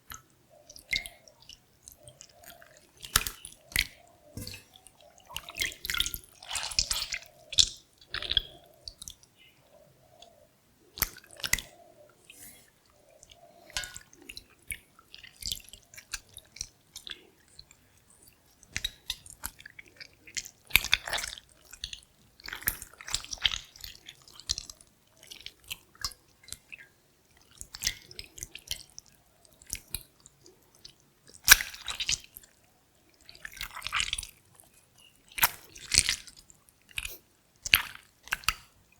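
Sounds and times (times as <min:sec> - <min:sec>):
wet squelching and slurping: 0:00.7 - 0:09.2, 0:11.0 - 0:26.1, 0:27.4 - 0:38.7.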